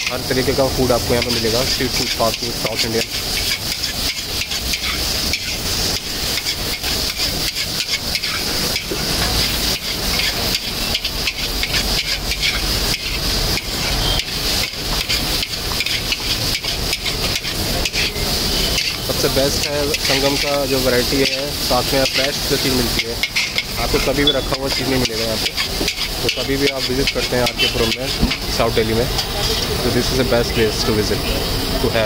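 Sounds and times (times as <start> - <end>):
metal spatula scraping a pan: 0.0 - 30.2
noodles sizzling in a wok: 0.0 - 32.0.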